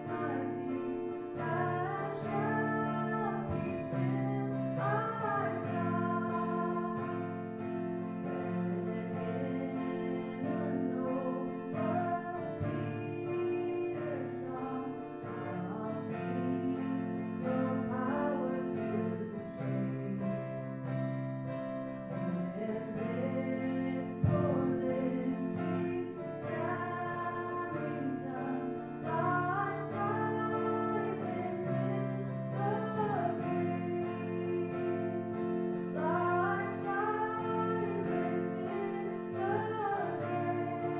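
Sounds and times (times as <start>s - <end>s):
person singing worship song: 0.0s - 20.8s, 22.1s - 40.9s
acoustic guitar: 0.0s - 40.9s.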